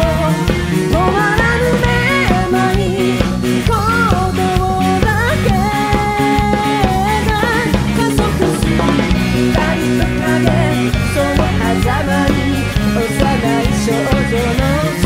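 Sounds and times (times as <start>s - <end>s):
lead melody sliding: 0.0s - 13.8s
drums and bass beat: 0.0s - 15.0s.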